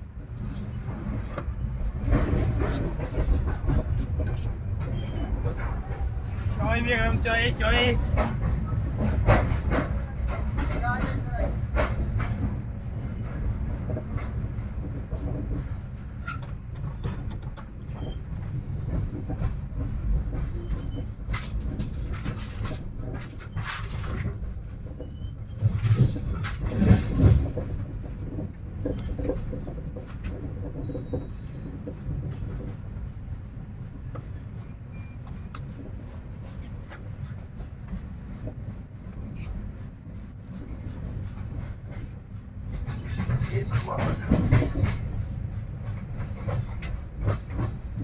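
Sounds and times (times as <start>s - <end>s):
train clanks: 0.0s - 48.0s
train wagons rumbling: 0.0s - 48.0s.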